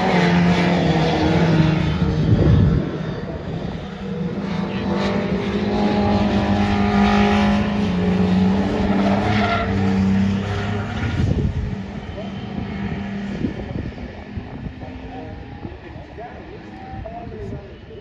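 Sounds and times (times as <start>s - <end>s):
racing car engine: 0.0s - 17.8s.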